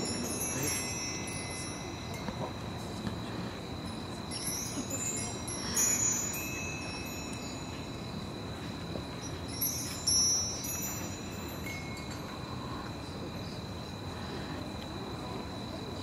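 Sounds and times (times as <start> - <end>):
metal chimes ringing: 0.0 - 13.8
night insects trilling: 0.0 - 16.0.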